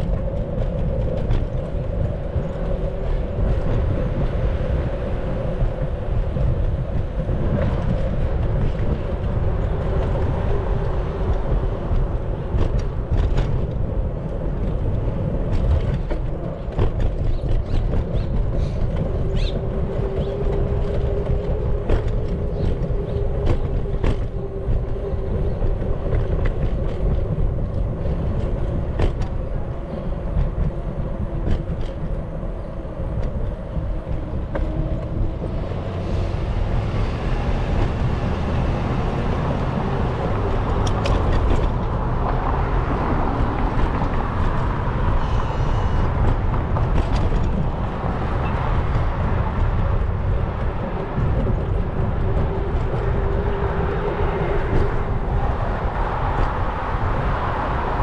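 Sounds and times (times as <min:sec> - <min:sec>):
city traffic: 0:00.0 - 0:58.0
wind rumbling on microphone: 0:00.0 - 0:58.0.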